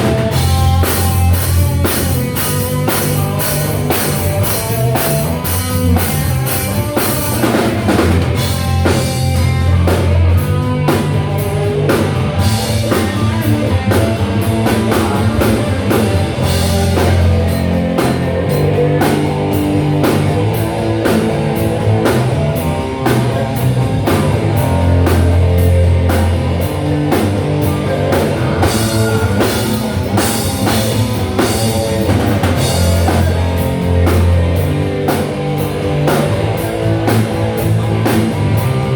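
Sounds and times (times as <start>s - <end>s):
bass guitar: 0.0s - 38.9s
drum kit beats: 0.0s - 38.9s
electric guitar: 0.0s - 38.9s.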